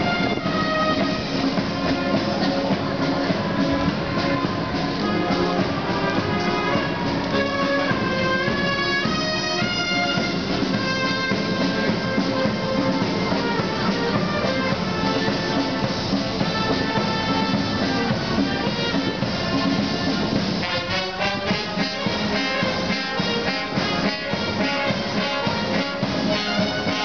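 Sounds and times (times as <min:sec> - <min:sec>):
military marching band playing: 0:00.0 - 0:27.0.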